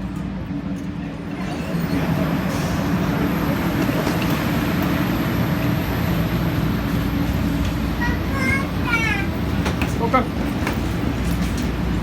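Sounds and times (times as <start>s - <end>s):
airliner cabin engine roar: 0.0s - 12.0s.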